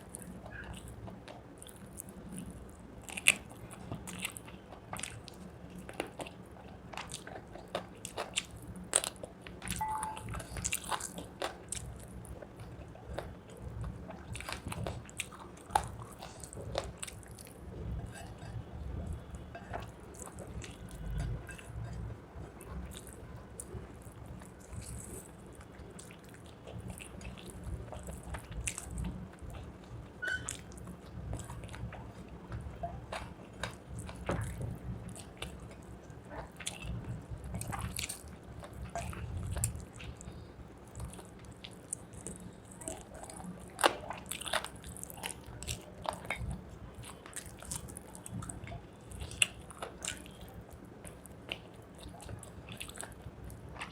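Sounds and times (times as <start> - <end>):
chewing with wet mouth noises: 0.0 - 53.9.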